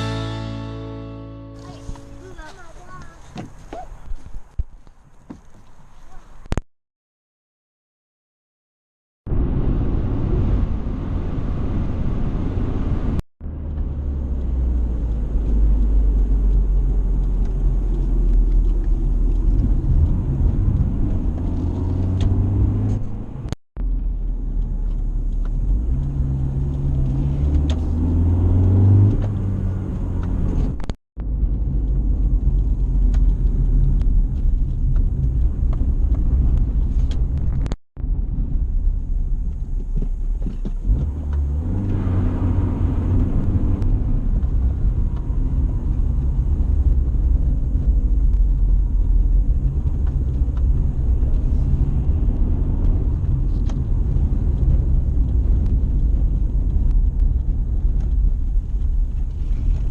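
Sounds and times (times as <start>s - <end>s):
road rumble: 0.0s - 6.6s, 9.3s - 59.9s
car engine: 9.3s - 59.9s.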